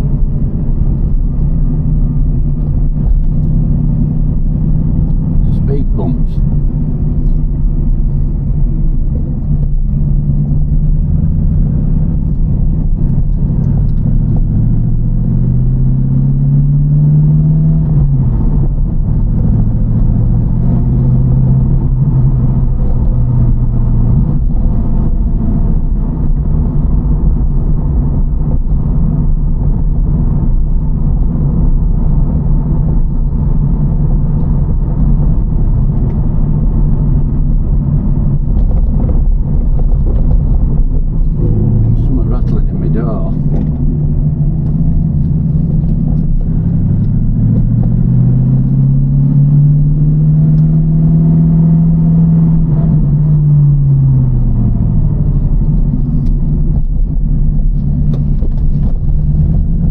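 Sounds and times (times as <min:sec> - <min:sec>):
car engine running while driving: 0:00.0 - 0:59.9.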